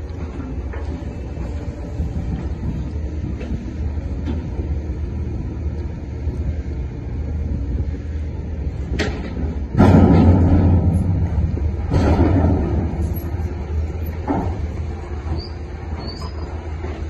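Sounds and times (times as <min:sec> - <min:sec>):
diesel machinery rumbling: 0:00.0 - 0:17.0.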